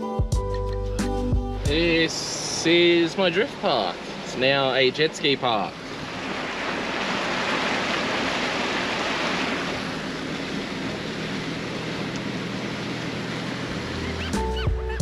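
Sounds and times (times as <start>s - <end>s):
low engine hum: 0.3s - 15.0s
water rushing against truck: 1.6s - 15.0s.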